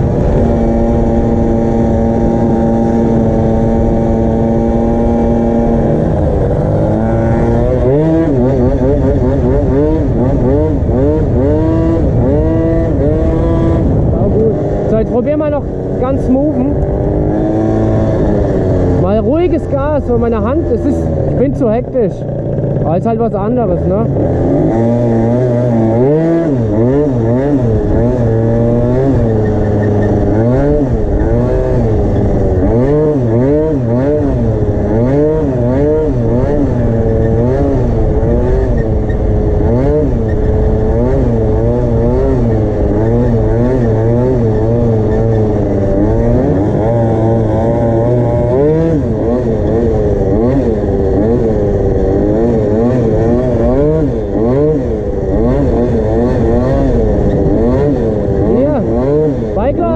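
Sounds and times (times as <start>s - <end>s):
scooter engine revving: 0.0s - 59.9s.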